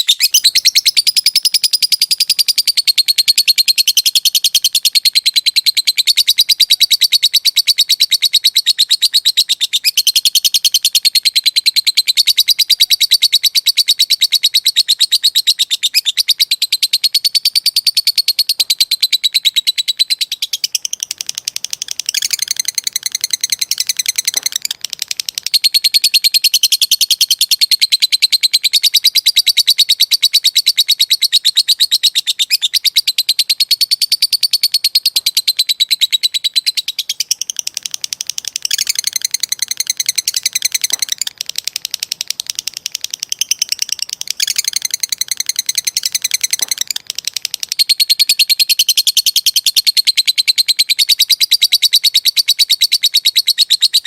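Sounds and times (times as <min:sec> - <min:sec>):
lovebird chattering trill: 0:00.0 - 0:54.0.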